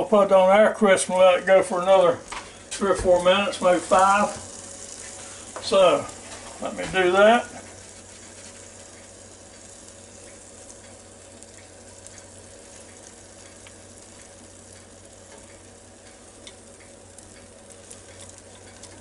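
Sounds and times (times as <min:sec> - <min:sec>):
meat sizzling: 0:01.0 - 0:19.0.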